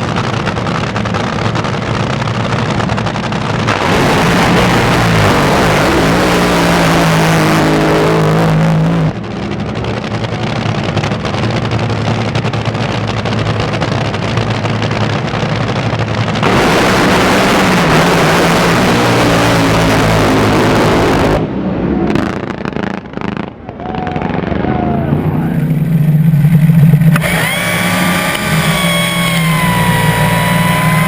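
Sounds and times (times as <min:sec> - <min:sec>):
drag boat engines racing: 0:00.0 - 0:31.0.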